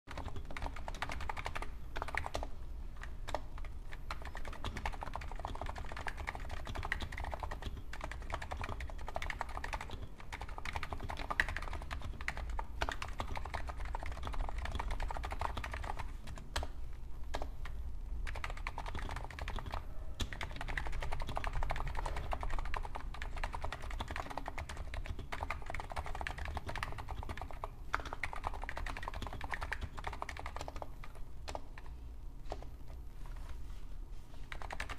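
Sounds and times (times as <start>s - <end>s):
keyboard typing: 0.1s - 33.0s, 34.4s - 34.9s.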